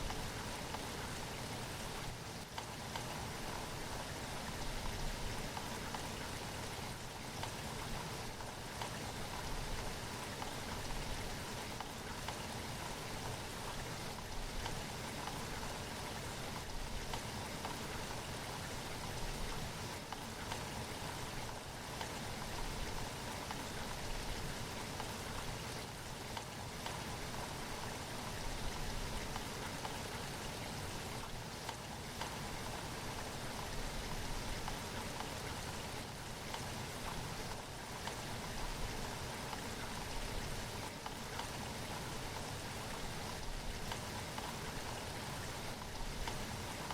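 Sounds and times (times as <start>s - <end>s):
rain falling: 0.0s - 46.9s
rain pattering on surfaces: 0.0s - 46.9s.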